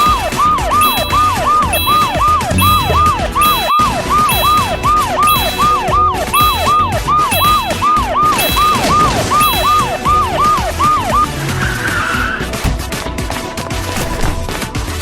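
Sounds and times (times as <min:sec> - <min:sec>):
cartoon police siren wailing: 0:00.0 - 0:12.6
background music: 0:00.0 - 0:15.0.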